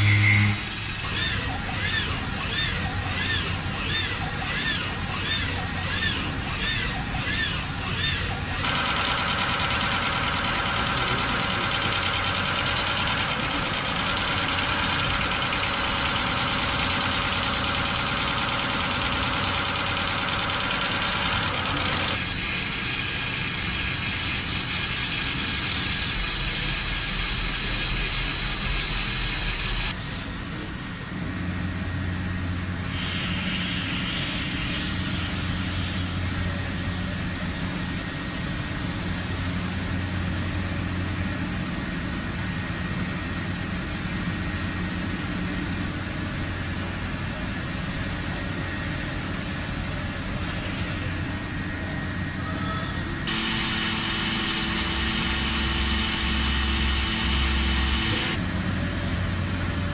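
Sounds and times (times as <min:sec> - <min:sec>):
industrial machines humming: 0:00.0 - 0:59.9.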